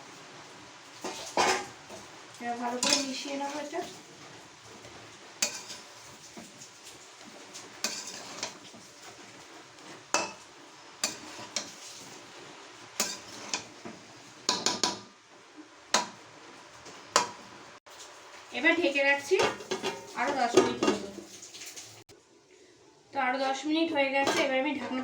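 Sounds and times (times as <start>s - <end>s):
utensil scraping a cooking pan: 0.0s - 22.1s.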